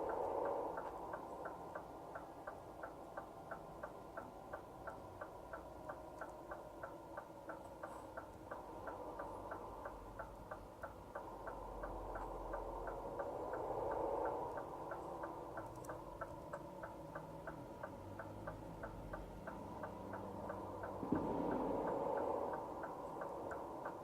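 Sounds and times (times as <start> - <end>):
diesel engine drone: 0.0 - 24.0
turn signal ticking: 0.0 - 24.0.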